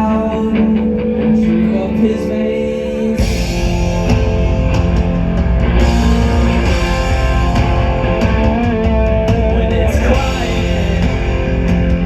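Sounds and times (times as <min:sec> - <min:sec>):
electric guitars: 0:00.0 - 0:12.0
live rock band playing: 0:00.0 - 0:12.0.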